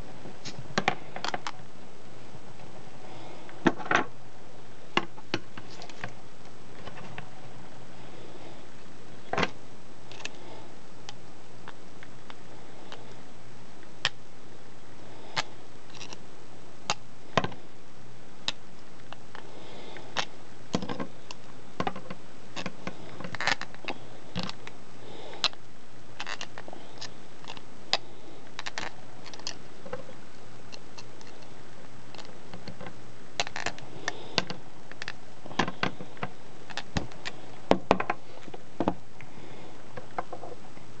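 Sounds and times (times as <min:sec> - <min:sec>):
steady hiss: 0:00.0 - 0:41.0.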